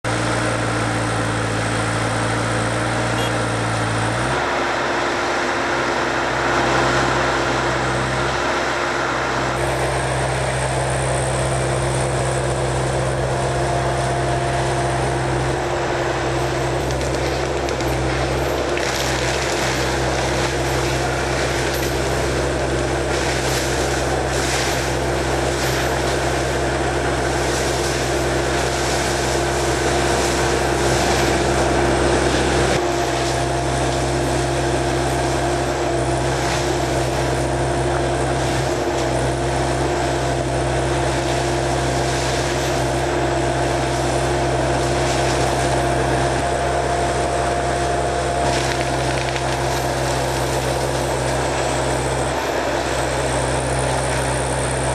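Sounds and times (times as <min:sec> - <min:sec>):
diesel engine running under load: 0:00.0 - 0:54.9
steady whine: 0:00.0 - 0:54.9.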